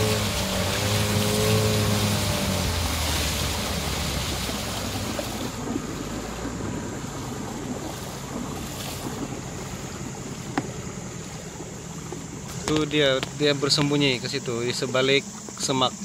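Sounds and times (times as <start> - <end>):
wind noise: 0.0 - 14.9
low hum: 0.0 - 16.0
rushing water: 0.0 - 16.0.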